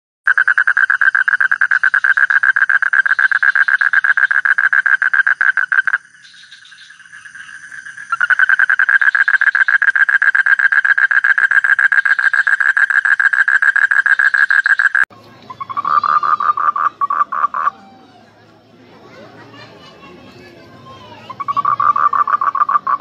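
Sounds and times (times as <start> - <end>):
toad pulsed trill: 0.3 - 17.7, 21.4 - 23.0.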